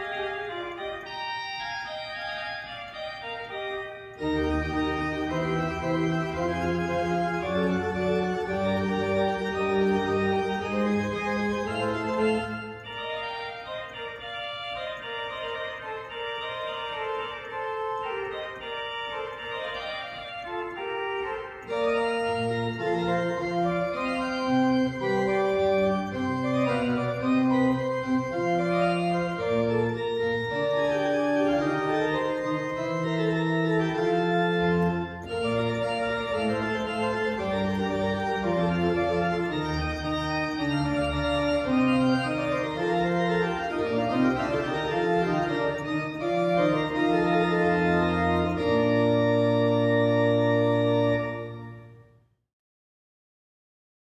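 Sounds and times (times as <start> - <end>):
church organ chords: 0.0 - 52.2.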